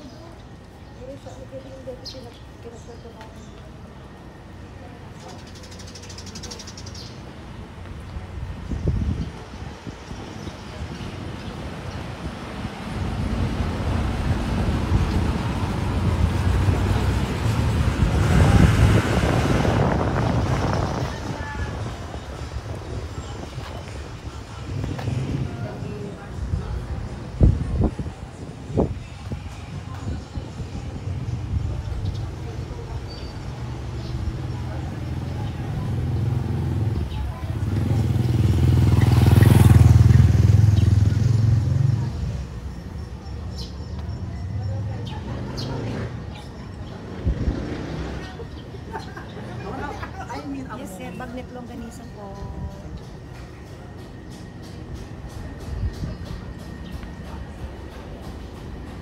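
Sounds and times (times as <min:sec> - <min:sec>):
vehicle engine rumbling: 0:11.6 - 0:59.0.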